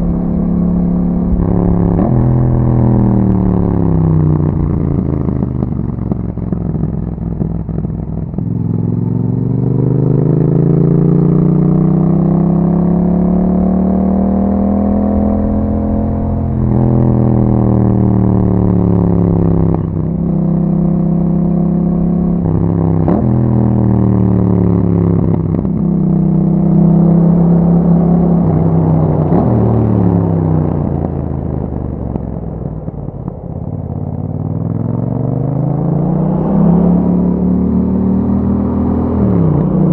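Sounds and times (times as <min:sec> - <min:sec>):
motorcycle engine revving: 0:00.0 - 0:32.6, 0:33.9 - 0:39.9.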